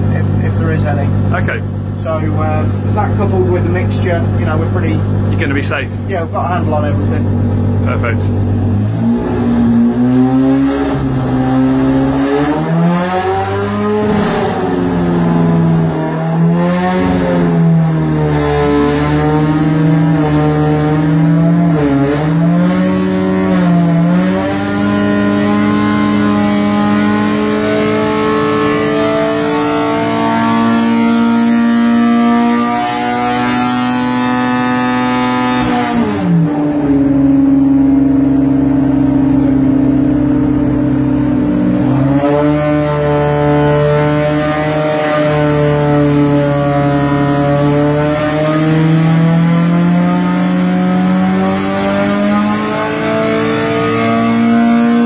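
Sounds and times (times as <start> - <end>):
racing engine revving: 0.0 - 55.0.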